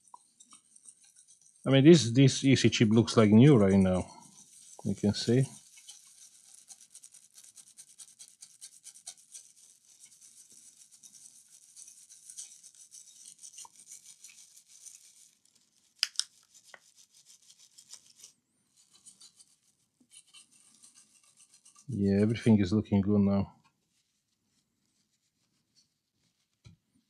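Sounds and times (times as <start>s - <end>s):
brush scrubbing with scratchy bristles: 0.0s - 26.6s.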